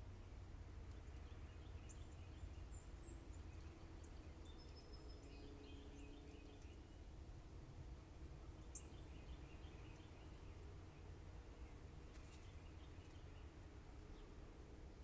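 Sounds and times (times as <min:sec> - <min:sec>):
low background rumble: 0:00.0 - 0:15.0
songbirds chirping: 0:00.0 - 0:15.0.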